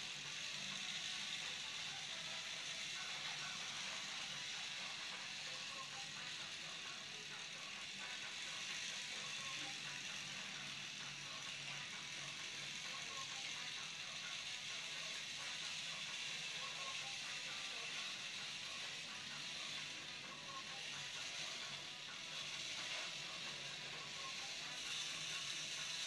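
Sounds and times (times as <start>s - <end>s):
toy train motor whirring: 0.0s - 26.0s.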